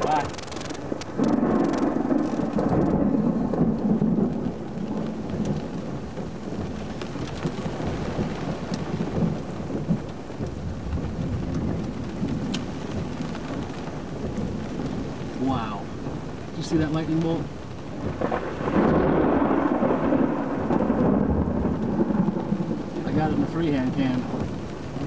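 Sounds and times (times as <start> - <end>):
heavy rain pouring: 0.0 - 25.0
low rumble of thunder: 0.0 - 25.0.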